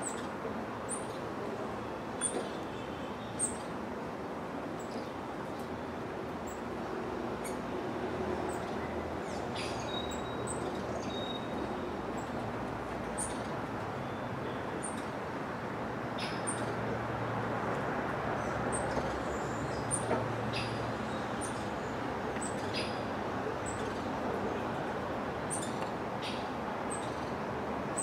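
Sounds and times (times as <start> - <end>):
low background noise: 0.0 - 28.0.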